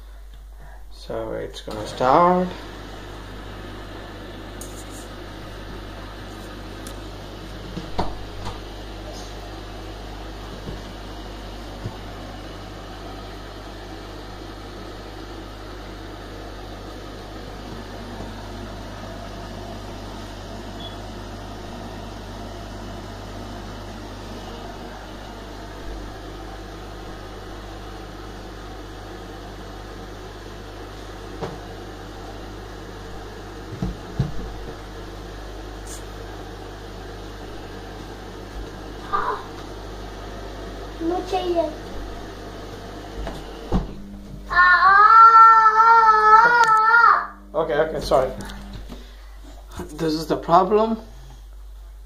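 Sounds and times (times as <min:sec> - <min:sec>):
washer dryer humming: 0:00.0 - 0:52.0.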